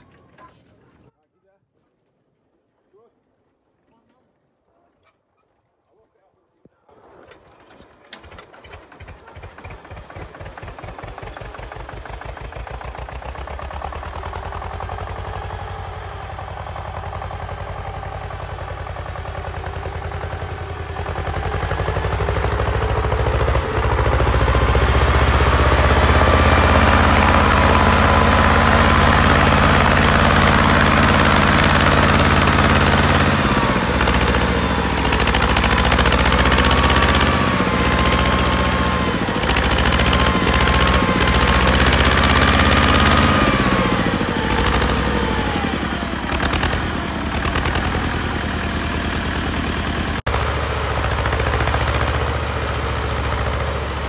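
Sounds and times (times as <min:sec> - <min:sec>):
diesel engine chugging and running: 0:06.9 - 0:54.0.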